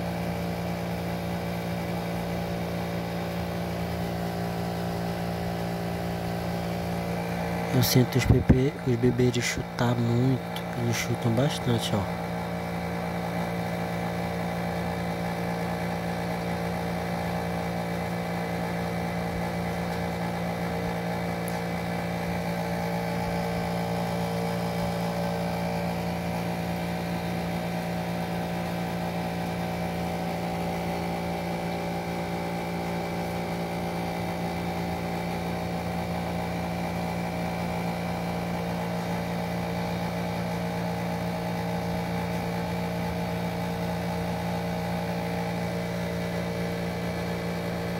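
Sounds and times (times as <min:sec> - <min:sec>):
steady mechanical hum: 0:00.0 - 0:47.9.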